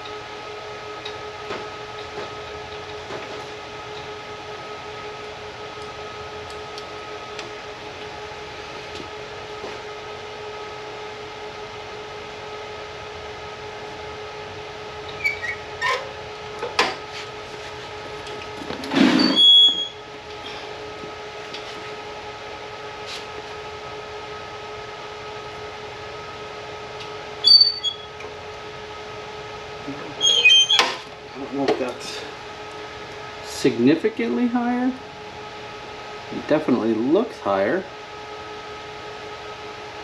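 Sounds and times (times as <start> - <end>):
background hum: 0.0 - 39.6.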